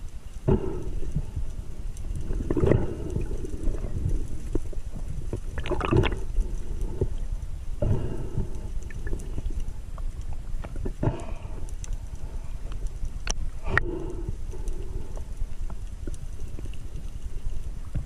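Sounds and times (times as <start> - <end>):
underwater water gurgling and rushing: 0.0 - 18.0.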